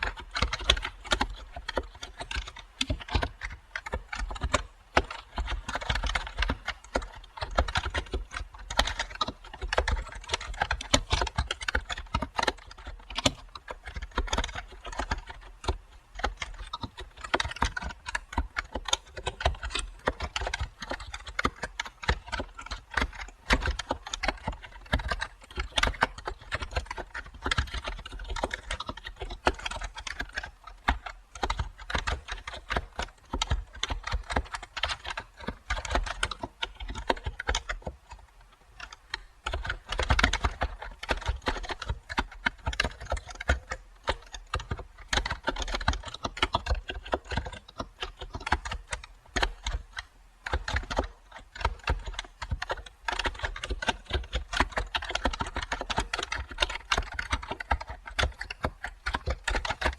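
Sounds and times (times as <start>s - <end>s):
typing on computer keyboard: 0.0s - 59.9s.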